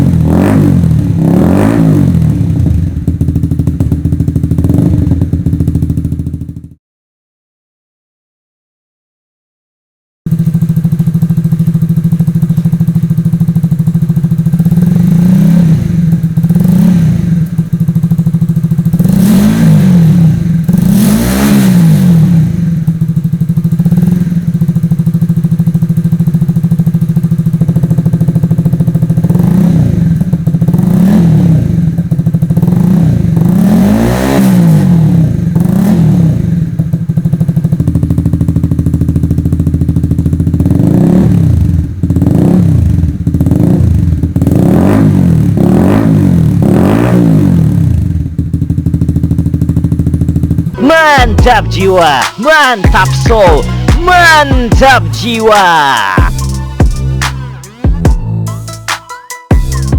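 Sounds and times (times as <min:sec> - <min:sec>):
motorcycle engine idling and revving: 0:00.0 - 0:06.8, 0:10.3 - 0:59.9.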